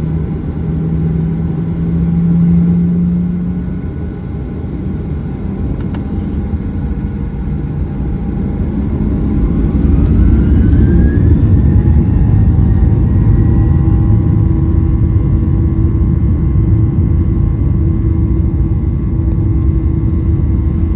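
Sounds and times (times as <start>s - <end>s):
jet engines rumbling and whining: 0.0s - 20.9s.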